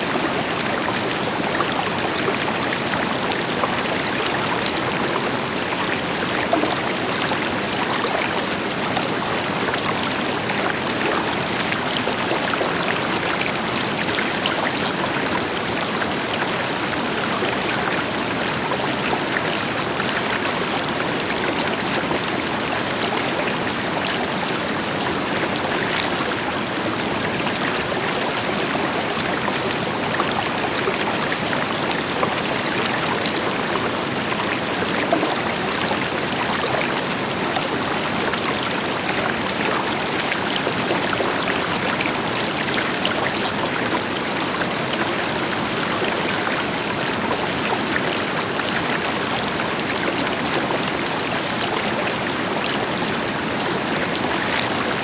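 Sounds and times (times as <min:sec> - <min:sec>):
river water splashing over rocks: 0:00.0 - 0:55.0.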